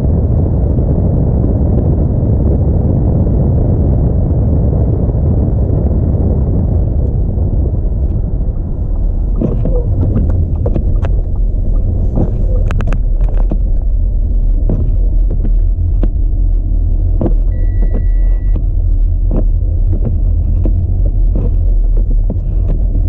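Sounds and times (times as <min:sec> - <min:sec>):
car driving on snowy road: 0:00.0 - 0:23.0.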